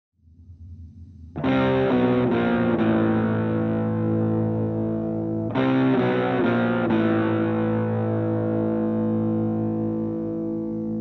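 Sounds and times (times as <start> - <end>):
distorted electric guitar chord: 1.4 - 11.0.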